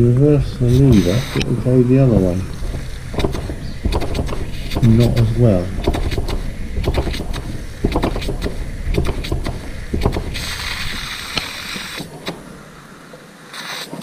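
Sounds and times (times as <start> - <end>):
steam hissing: 0.0 - 14.0
toy steam engine chuffing: 0.6 - 13.7.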